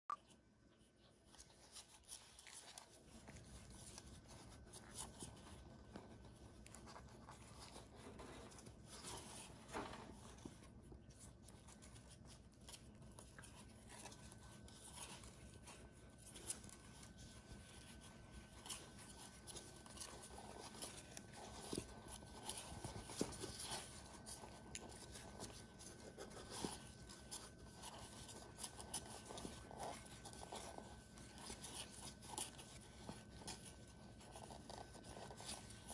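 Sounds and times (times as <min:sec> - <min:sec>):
puppies rustling and clicking: 0:00.7 - 0:35.9.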